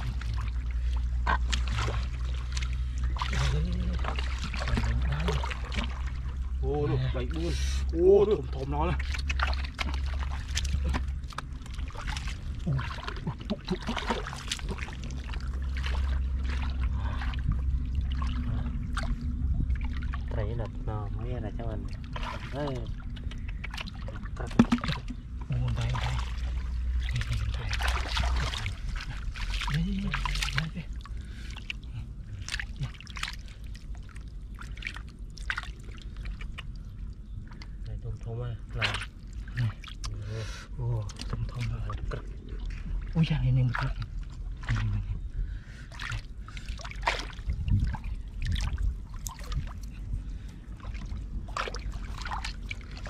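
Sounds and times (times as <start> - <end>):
steady low rumble: 0.0 - 53.0
water splashing and sloshing: 0.0 - 53.0.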